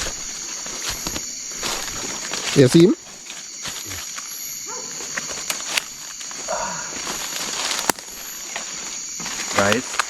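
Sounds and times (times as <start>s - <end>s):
night insects chorus: 0.0s - 10.0s.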